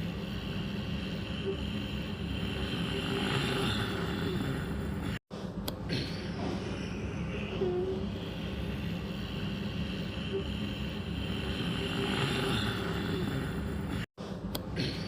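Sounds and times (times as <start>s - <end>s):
steady low rumbling: 0.0s - 14.7s.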